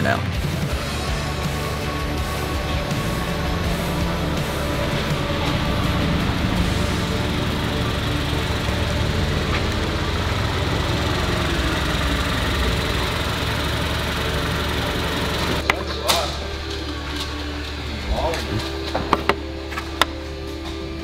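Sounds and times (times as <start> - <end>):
car engine running at low revs: 0.0 - 20.5.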